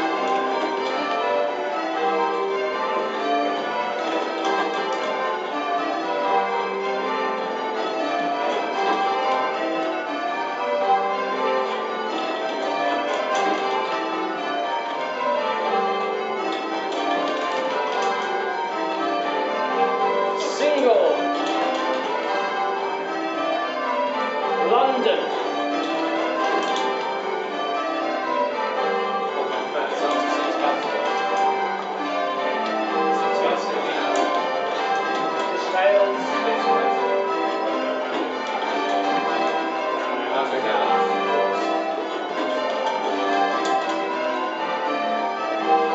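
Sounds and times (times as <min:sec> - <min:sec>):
church bells change ringing: 0:00.0 - 0:45.9.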